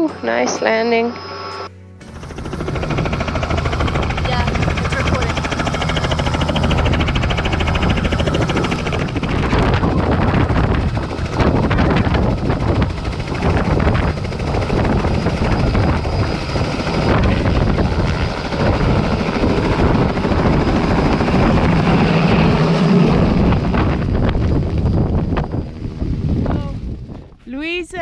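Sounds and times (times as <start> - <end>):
helicopter rotor and turbine noise: 0.0 - 28.0.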